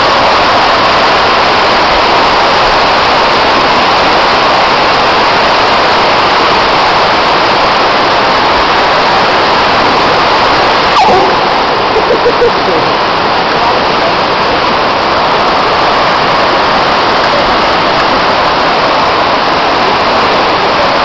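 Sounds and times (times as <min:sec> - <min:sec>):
rushing water: 0:00.0 - 0:21.0.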